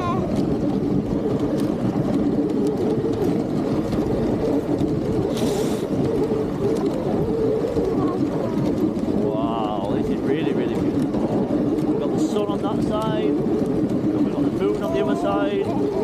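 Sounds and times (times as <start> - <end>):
sled runners gliding over snow: 0.0 - 16.0
wind on microphone: 0.0 - 16.0.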